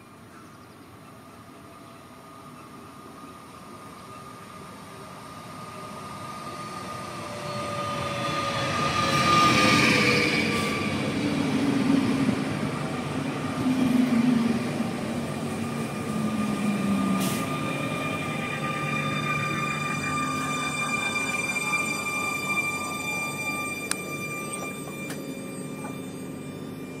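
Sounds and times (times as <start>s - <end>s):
electric train passing: 0.1s - 27.0s.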